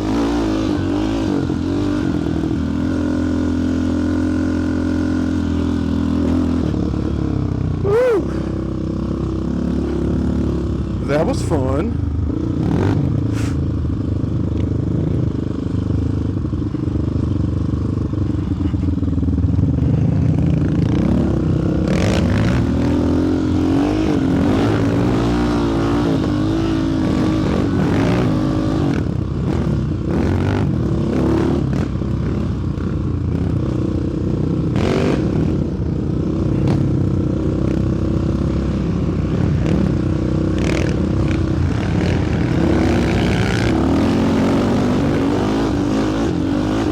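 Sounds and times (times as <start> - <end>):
quad engine revving: 0.0 - 13.6, 20.7 - 32.0, 33.4 - 35.8, 36.4 - 46.9.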